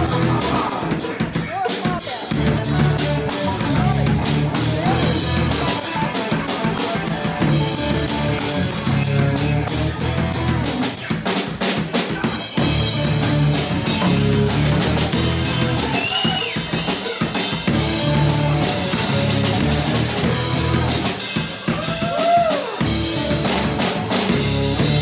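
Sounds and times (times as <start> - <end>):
electric bass guitar: 0.0 - 1.4, 2.3 - 25.0
drum kit beat: 0.0 - 25.0
electric guitar: 0.0 - 25.0.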